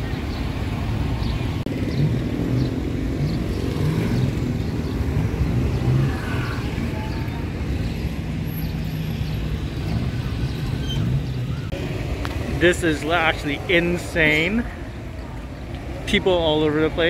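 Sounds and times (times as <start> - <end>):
motorbike engines passing: 0.0 - 17.0
steady traffic noise: 0.0 - 17.0.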